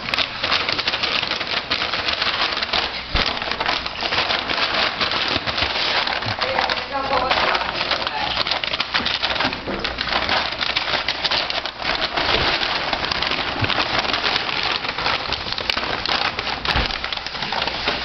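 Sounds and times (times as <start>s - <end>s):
paper and plastic crinkling: 0.0s - 18.0s.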